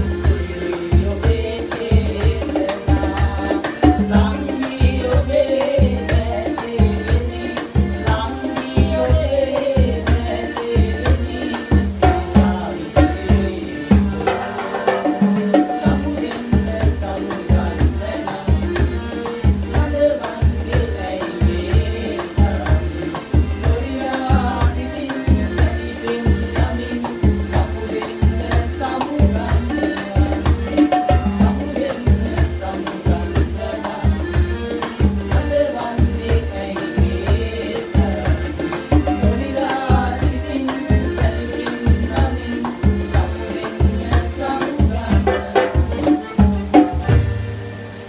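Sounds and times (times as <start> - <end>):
men singing: 0.0 - 47.4
folk-pop band playing: 0.0 - 48.0.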